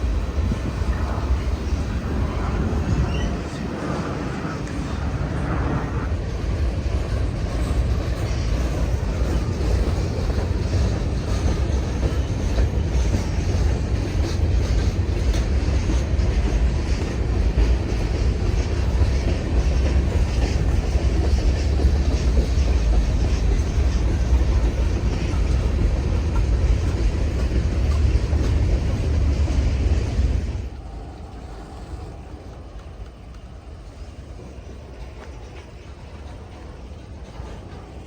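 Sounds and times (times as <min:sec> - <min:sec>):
freight train rumbling: 0:00.0 - 0:38.0
steel wheels clacking over rail joints: 0:00.0 - 0:38.0.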